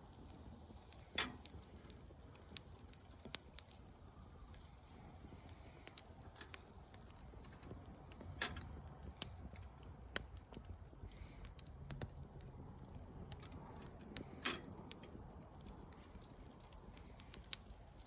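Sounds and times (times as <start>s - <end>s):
loud fire pops: 0.0s - 18.0s
wood fire crackling: 0.0s - 18.0s.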